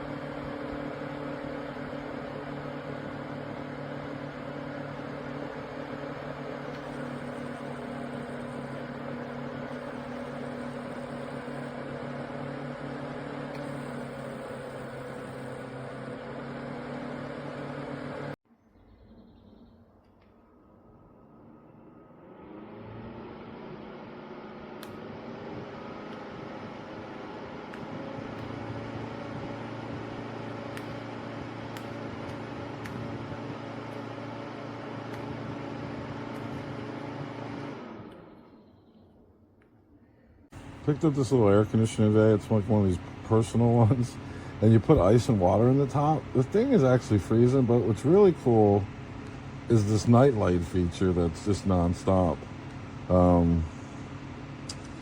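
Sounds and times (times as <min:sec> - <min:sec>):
electric fan humming: 0:00.0 - 0:18.4, 0:22.1 - 0:38.6, 0:40.5 - 0:55.0.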